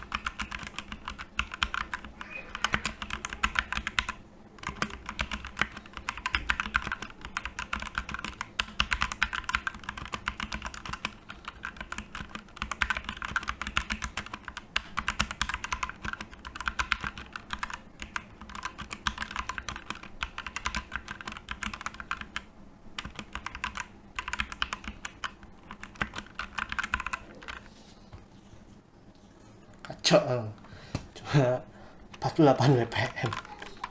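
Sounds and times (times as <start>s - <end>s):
mechanical keyboard typing: 0.0s - 27.6s, 33.0s - 33.9s.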